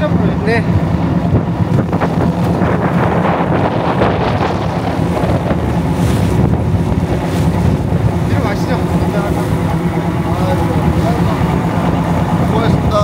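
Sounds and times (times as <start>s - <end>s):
boat engine hum: 0.0s - 13.0s
water rushing past hull: 0.0s - 13.0s
wind buffeting microphone: 0.0s - 13.0s.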